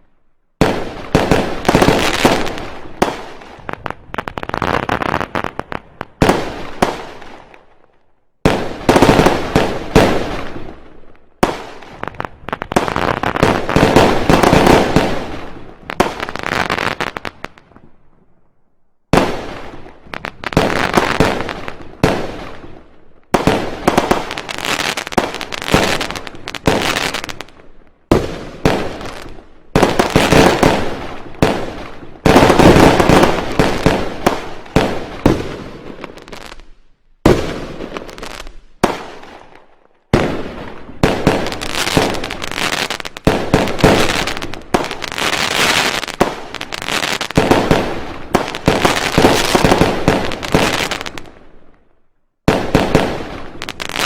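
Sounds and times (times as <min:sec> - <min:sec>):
fireworks bangs with crackling: 0:00.6 - 0:07.8, 0:08.4 - 0:17.9, 0:19.1 - 0:51.7, 0:52.4 - 0:54.0.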